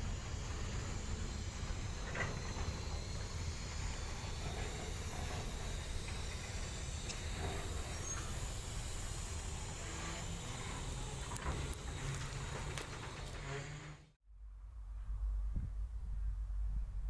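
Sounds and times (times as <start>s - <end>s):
freight train wheels rumbling: 0.0s - 14.2s.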